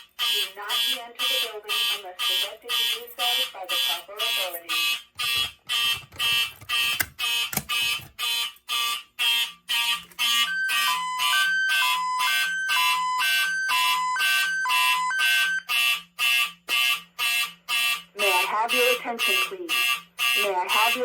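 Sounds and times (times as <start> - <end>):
high-low alternating alarm signal: 0.0 - 21.0
pulsing fire alarm horn: 0.0 - 21.0.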